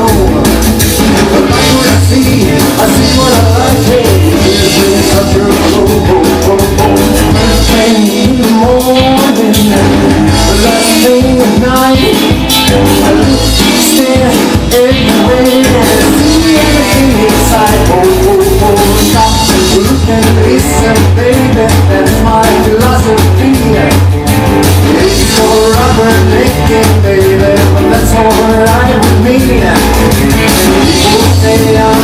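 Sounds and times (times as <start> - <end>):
rock and roll song with singing: 0.0 - 32.0.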